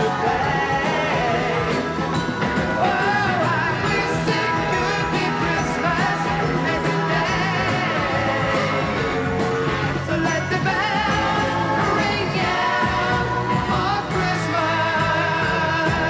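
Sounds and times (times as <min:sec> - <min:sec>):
person singing: 0:00.0 - 0:16.0
pop-rock song: 0:00.0 - 0:16.0.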